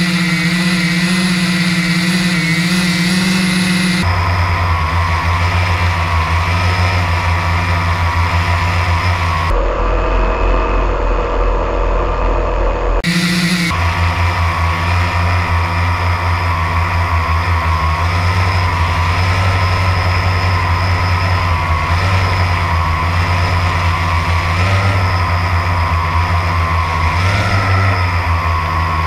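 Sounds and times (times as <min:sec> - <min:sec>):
drone propellers humming: 0:00.0 - 0:29.0.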